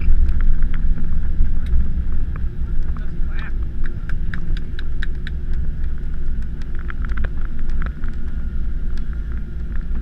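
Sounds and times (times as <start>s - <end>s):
airliner rumbling on runway: 0.0s - 10.0s.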